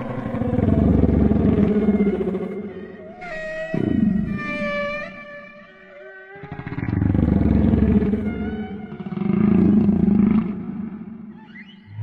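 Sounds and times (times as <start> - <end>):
whale moans: 0.0 - 4.9, 6.0 - 12.0.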